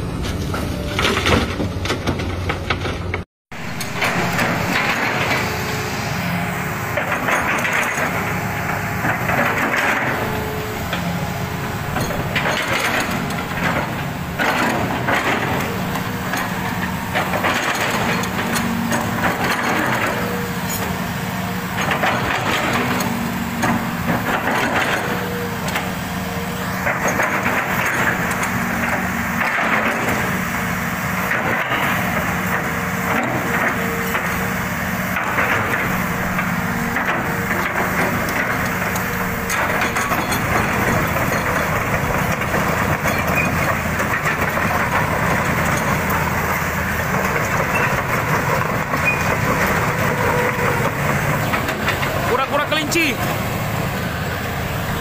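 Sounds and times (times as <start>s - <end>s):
excavator engine hum: 0.0s - 55.0s.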